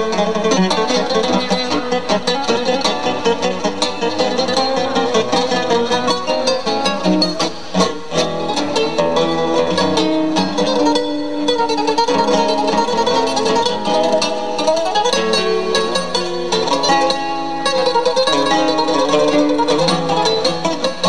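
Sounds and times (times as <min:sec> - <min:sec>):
mandolins playing a tango: 0:00.0 - 0:21.0.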